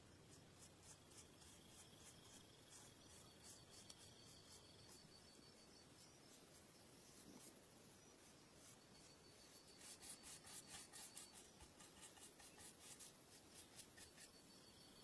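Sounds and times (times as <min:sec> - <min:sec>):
faint rubbing strokes: 0:00.3 - 0:14.5.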